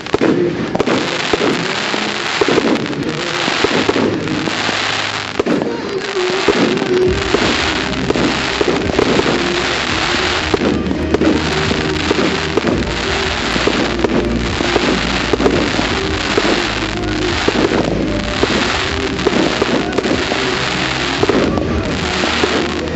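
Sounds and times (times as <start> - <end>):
fireworks crackling and popping: 0.0 - 22.9.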